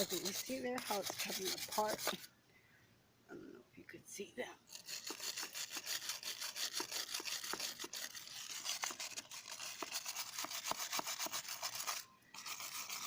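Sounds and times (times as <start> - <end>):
wire brush scrubbing rock: 0.0 - 2.3, 4.7 - 13.0.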